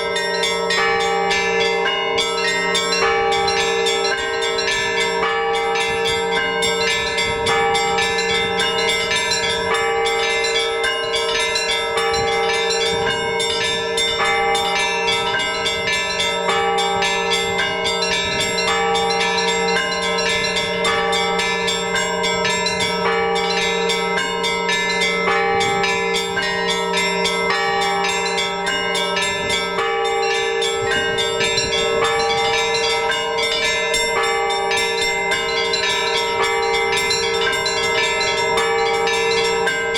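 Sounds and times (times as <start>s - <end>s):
large bells humming: 0.0s - 39.9s
small bells striking quickly: 0.0s - 39.9s.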